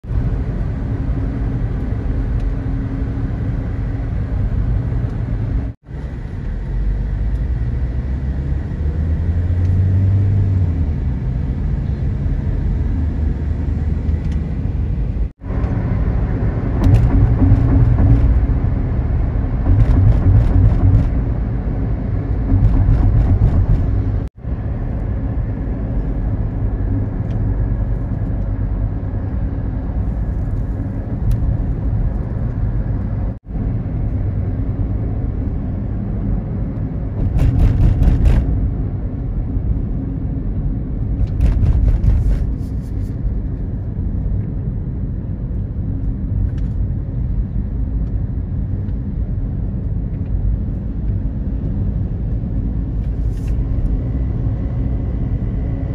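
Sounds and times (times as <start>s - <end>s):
car tyre and engine rumble: 0.0s - 55.9s.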